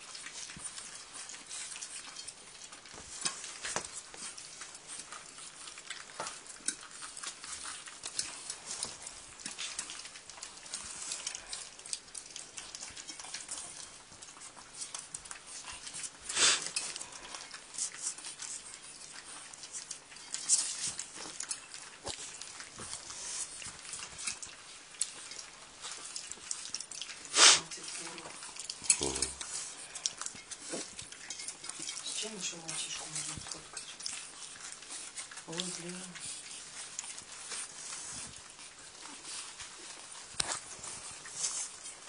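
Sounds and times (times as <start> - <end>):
puppies rustling on pad: 0.0 - 42.0.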